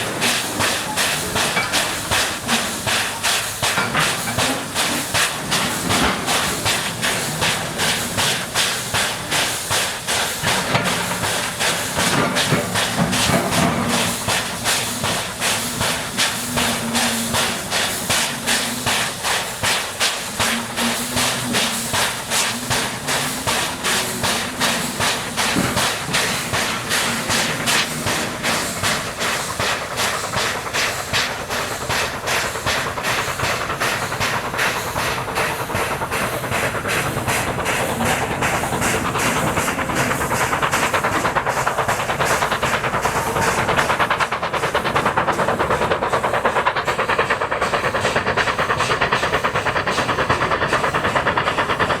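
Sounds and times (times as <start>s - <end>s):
steam hissing: 0.0s - 52.0s
steam locomotive chuffing: 0.0s - 52.0s.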